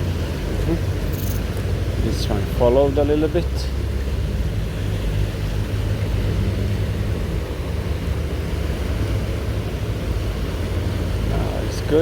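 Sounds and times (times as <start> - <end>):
fast-flowing river rushing: 0.0 - 12.0.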